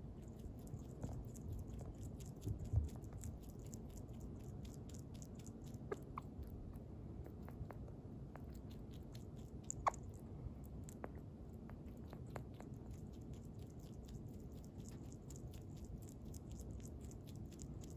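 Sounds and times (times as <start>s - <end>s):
small animal chewing food: 0.0s - 17.9s.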